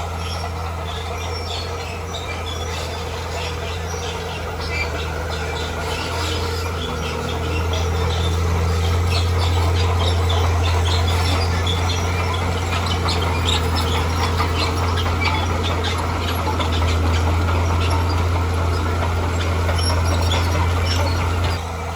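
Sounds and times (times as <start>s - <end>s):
birds chirping: 0.0s - 21.6s
heavy diesel engine droning: 0.0s - 21.9s.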